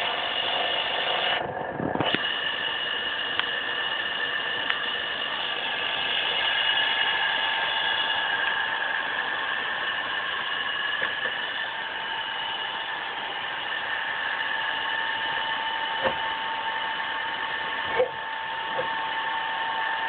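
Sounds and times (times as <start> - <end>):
rushing noise: 0.0 - 16.6
milling machine whine: 0.0 - 20.0.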